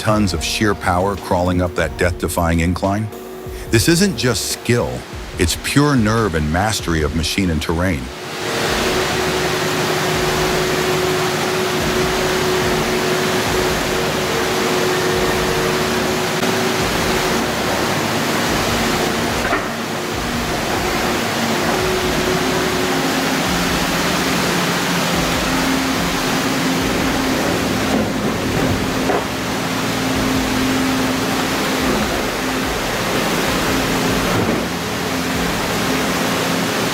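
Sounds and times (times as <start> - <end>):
heavy vehicle engine running: 0.0 - 36.9
wind or road noise hiss: 3.1 - 36.9.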